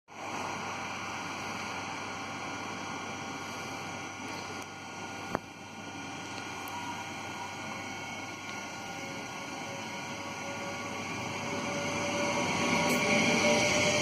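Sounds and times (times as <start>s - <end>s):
vehicle running hum and hiss: 0.1s - 14.0s
faint steady tones: 0.5s - 14.0s.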